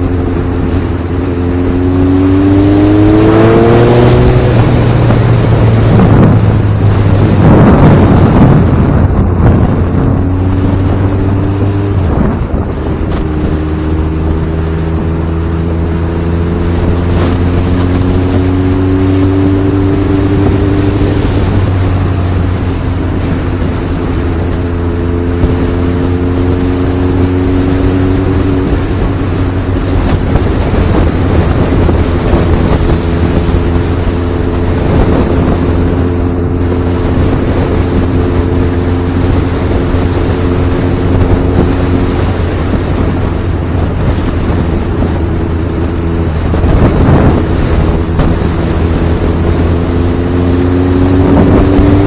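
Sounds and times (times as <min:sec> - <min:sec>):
motorcycle engine running: 0:00.0 - 0:52.0
wind noise on microphone: 0:00.0 - 0:52.0.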